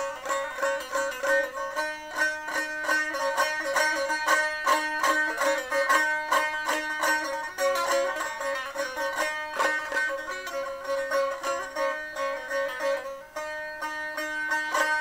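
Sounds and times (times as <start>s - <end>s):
plucked string instrument tune: 0.0s - 15.0s.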